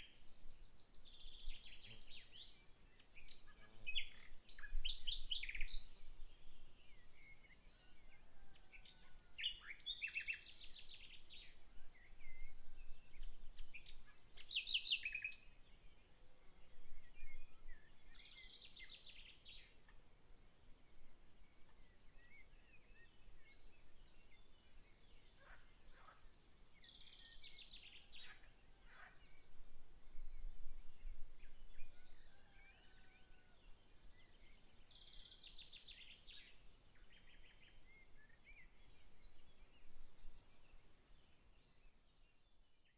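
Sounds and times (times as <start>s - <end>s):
faint outdoor background noise: 0.0s - 42.9s
songbirds singing: 0.0s - 42.9s.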